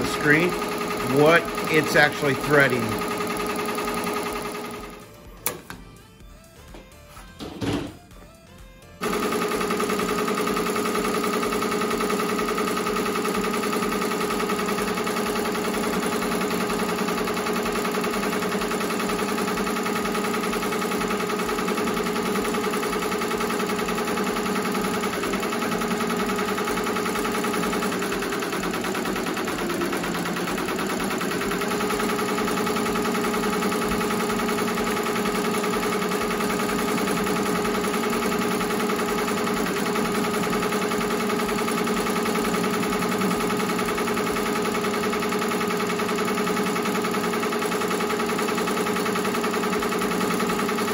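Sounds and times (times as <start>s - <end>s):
embroidery machine stitching: 0.0s - 5.7s, 9.0s - 50.9s.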